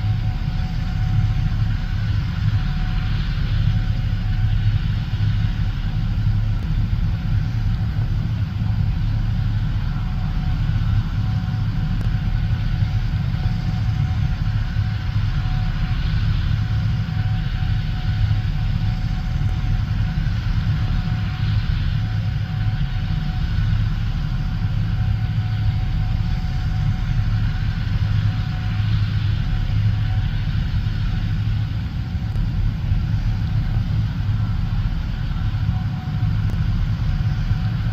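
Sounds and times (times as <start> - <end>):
diesel engine rumble: 0.0 - 37.9
faint whine: 0.0 - 37.9.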